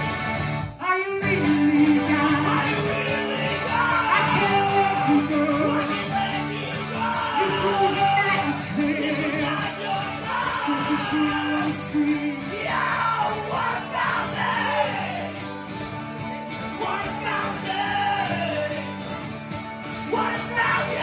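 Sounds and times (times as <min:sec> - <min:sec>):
mandolin playing: 0:00.0 - 0:21.0
strummed acoustic guitar: 0:00.0 - 0:21.0
person singing: 0:00.8 - 0:15.5, 0:16.7 - 0:19.0, 0:20.0 - 0:21.0.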